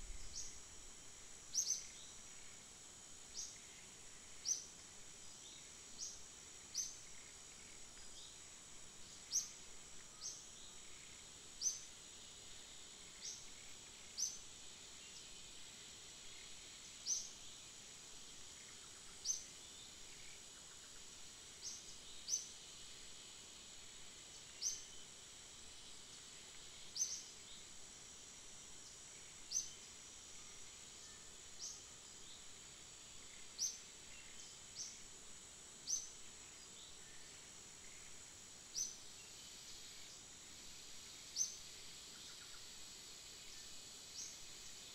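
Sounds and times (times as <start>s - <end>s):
forest insects droning: 0.0s - 44.9s.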